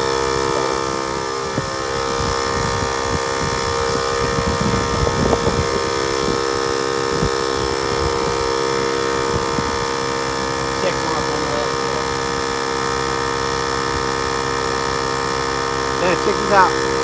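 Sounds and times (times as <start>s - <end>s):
low rumbling: 0.0s - 17.0s
tire inflator motor buzzing: 0.0s - 17.0s.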